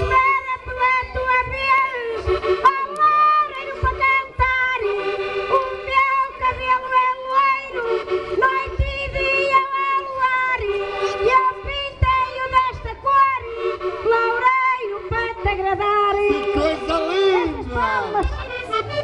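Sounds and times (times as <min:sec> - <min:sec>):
woman singing into microphone: 0:00.0 - 0:16.6
accordion chords: 0:00.0 - 0:19.0.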